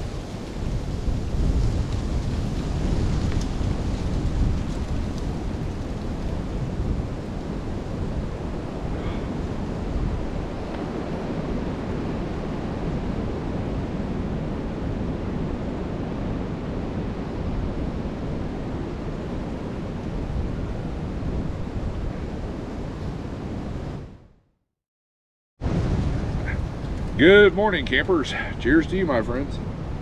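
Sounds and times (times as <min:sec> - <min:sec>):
wind blowing across microphone: 0:00.0 - 0:24.3, 0:25.6 - 0:30.0.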